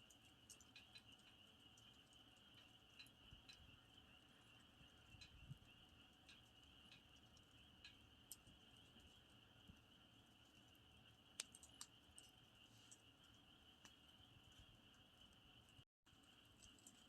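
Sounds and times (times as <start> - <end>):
campfire crackles and pops: 0.1 - 17.0.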